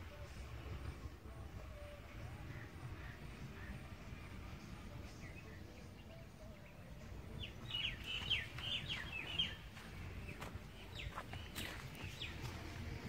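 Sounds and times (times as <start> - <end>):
low outdoor rumble: 0.0 - 13.0
bird chirping: 1.7 - 13.0.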